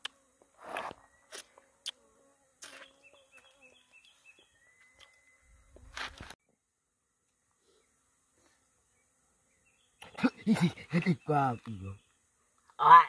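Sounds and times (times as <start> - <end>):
insect buzzing: 0.0 - 13.0.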